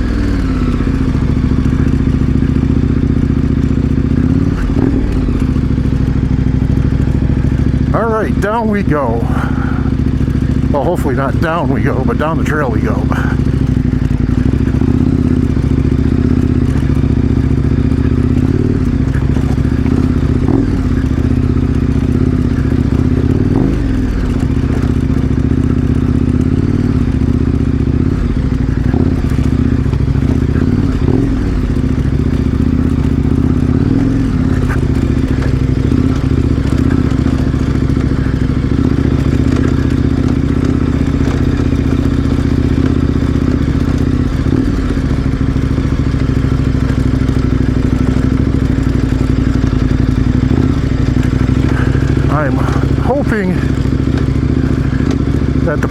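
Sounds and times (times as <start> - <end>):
motorcycle engine at low revs: 0.0 - 55.9.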